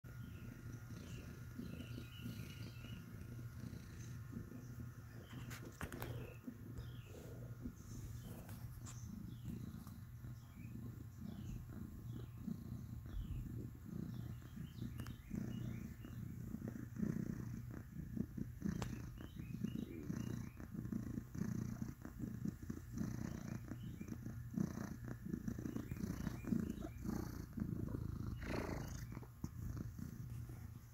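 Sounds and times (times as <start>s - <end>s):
cat purring: 0.1s - 30.9s.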